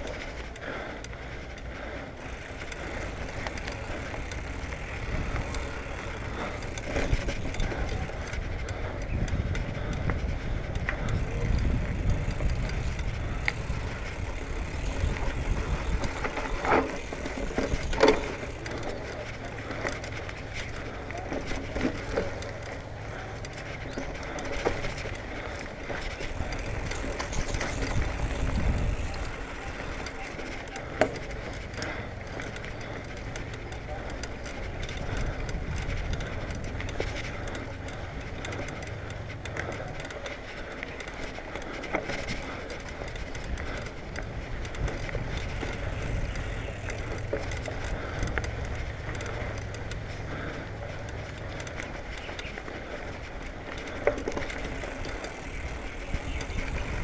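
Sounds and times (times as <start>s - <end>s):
bike rattling and clicking: 0.0s - 57.0s
bike tyres rumbling on dirt: 0.0s - 57.0s.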